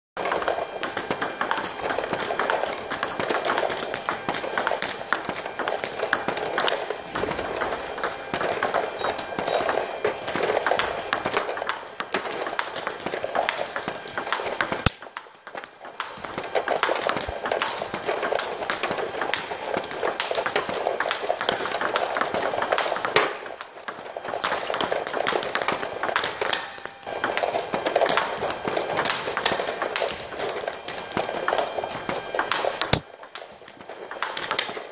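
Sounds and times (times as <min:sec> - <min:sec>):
table tennis ball clicking: 0:00.3 - 0:30.4.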